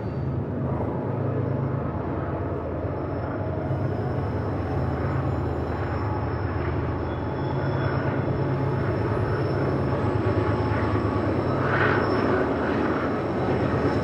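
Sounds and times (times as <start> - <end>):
diesel locomotive drone: 0.0 - 14.0
train cars rumbling on rails: 0.0 - 14.0.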